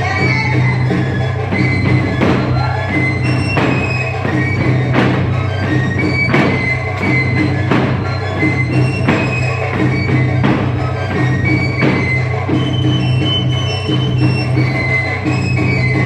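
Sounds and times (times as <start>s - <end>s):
folk dance music with fiddle: 0.0s - 16.0s.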